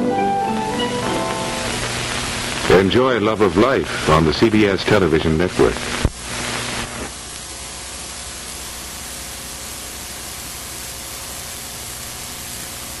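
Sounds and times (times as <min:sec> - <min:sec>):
recording hiss: 0:00.0 - 0:13.0.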